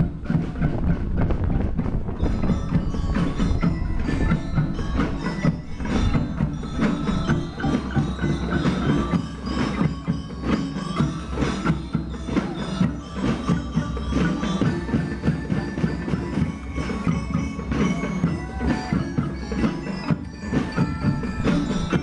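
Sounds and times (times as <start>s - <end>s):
bell lyres playing a tune: 0.0s - 22.0s
marching drums: 0.0s - 22.0s.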